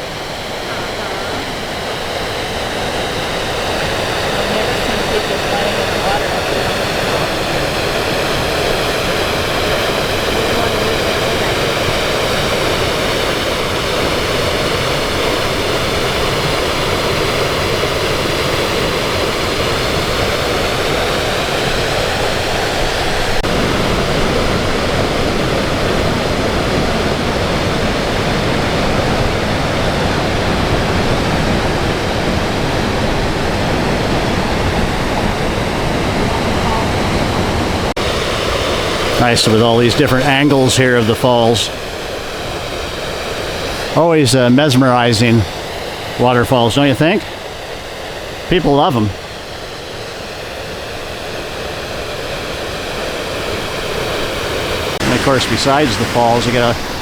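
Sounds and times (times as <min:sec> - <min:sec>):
waterfall rushing: 0:00.0 - 0:47.5, 0:54.4 - 0:57.0.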